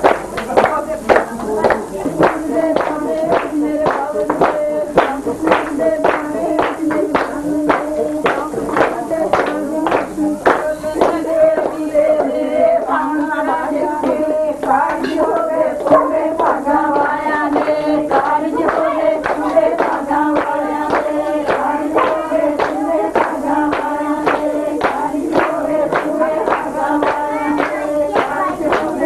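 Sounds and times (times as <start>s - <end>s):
group singing: 0.0s - 29.0s
hand clapping: 0.0s - 29.0s.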